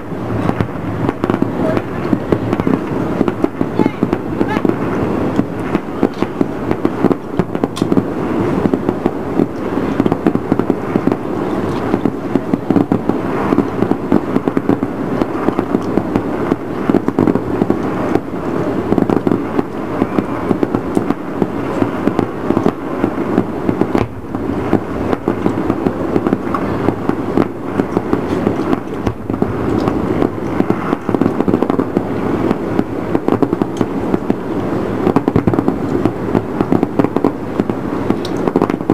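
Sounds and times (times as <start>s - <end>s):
fireworks popping and crackling: 0.0s - 38.9s.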